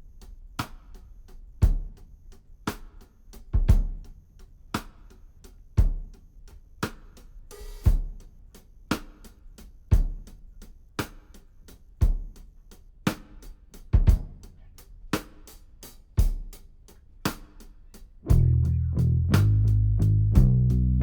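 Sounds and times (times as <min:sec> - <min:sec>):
music with steady drum beat: 0:00.0 - 0:21.0.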